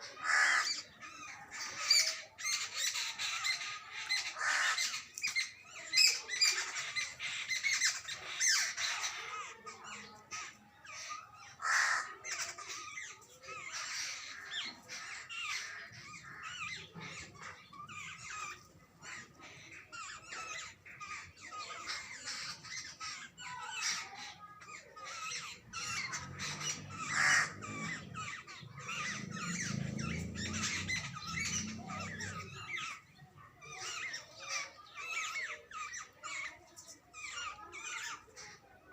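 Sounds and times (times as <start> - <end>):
birds chattering harshly: 0.0 - 38.9.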